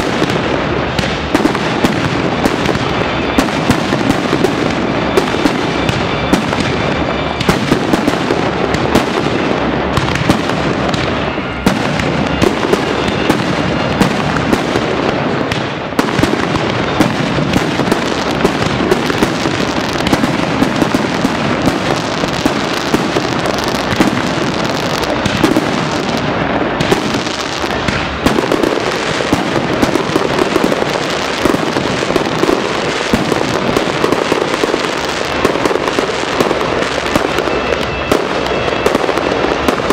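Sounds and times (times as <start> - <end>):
fireworks barrage of sharp bangs: 0.0 - 39.9.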